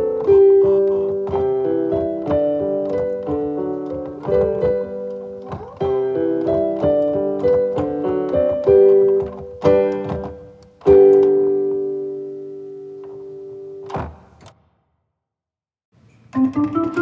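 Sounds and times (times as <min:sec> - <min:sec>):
piano music: 0:00.0 - 0:14.0, 0:16.3 - 0:17.0.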